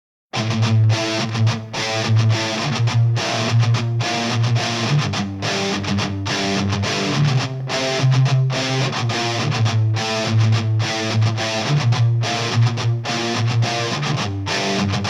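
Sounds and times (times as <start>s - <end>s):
distorted electric guitar chords: 0.4s - 15.0s.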